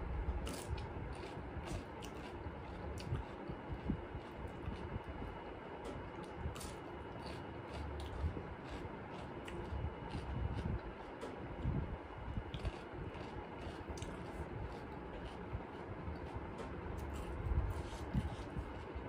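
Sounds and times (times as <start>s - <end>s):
low steady rumble: 0.0s - 19.0s
chewing and mouth clicks: 0.3s - 5.2s, 5.8s - 11.8s, 12.4s - 19.0s.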